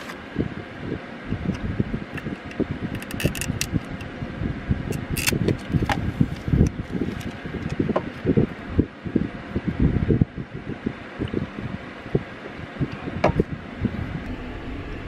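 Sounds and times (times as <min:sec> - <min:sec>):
wind rumble: 0:00.0 - 0:15.0.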